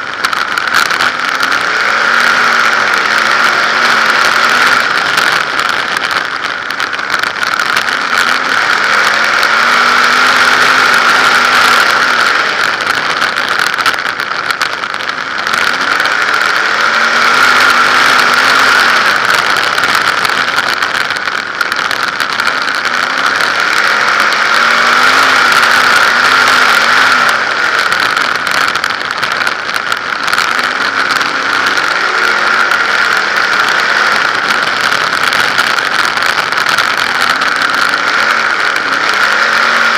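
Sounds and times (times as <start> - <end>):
race car engine rising and falling: 0.0 - 39.9.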